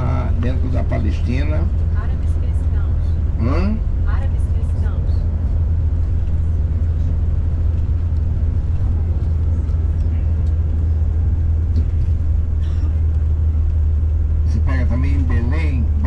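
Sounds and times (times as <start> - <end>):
coach engine and road noise: 0.0 - 16.0.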